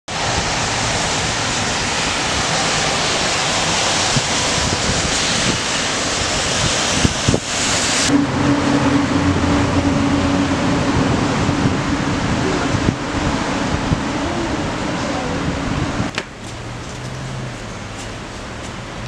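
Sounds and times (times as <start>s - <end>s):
wind blowing across microphone: 0.1s - 19.0s.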